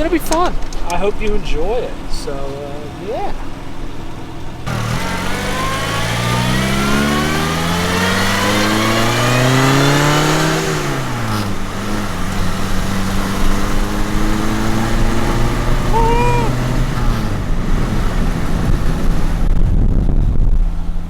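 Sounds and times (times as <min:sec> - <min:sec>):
car engine accelerating: 0:01.8 - 0:21.0.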